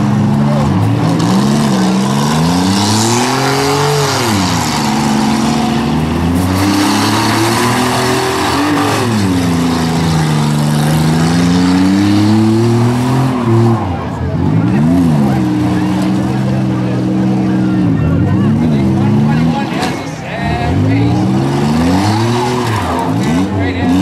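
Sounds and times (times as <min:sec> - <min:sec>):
minivan engines revving: 0:00.0 - 0:24.0.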